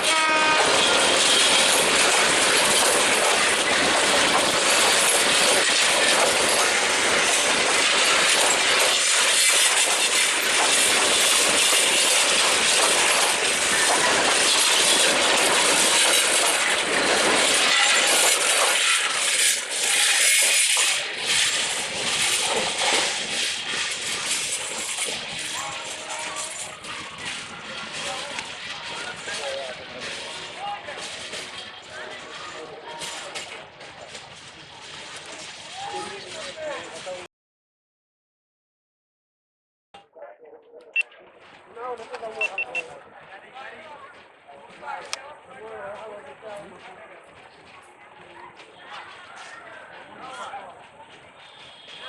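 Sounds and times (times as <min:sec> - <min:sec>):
train wheels clattering on rails: 0:00.0 - 0:37.3, 0:41.3 - 0:52.0.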